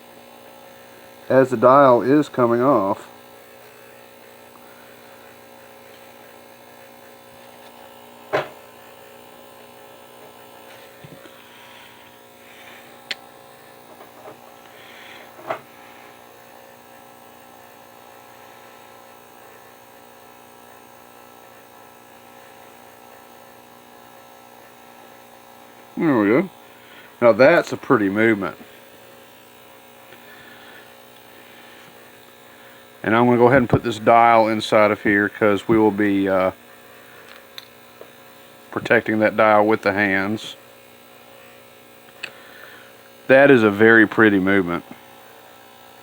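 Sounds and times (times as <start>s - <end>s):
electrical mains hum: 0.0s - 46.0s.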